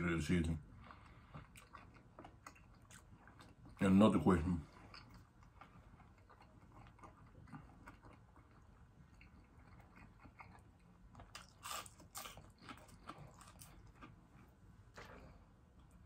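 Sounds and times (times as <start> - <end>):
mouth chewing sounds: 0.6 - 3.9, 4.6 - 16.0.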